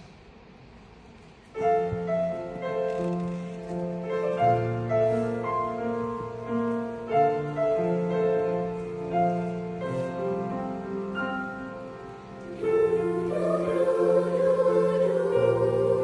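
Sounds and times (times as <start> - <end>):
piano playing slow classical chords: 1.4 - 16.0.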